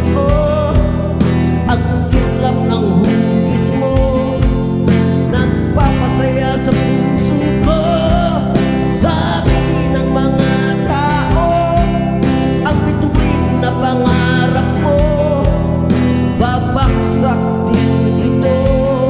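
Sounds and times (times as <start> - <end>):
guitar: 0.0 - 19.0
person singing with vibrato: 0.0 - 19.0
steady drum beat: 0.0 - 19.0.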